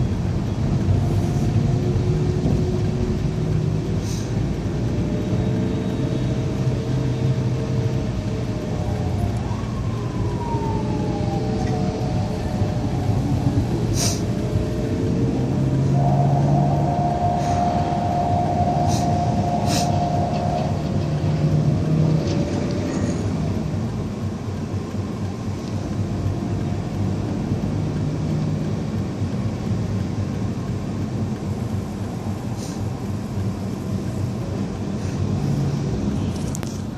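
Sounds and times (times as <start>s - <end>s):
vehicle engine and road rumble: 0.0s - 36.9s.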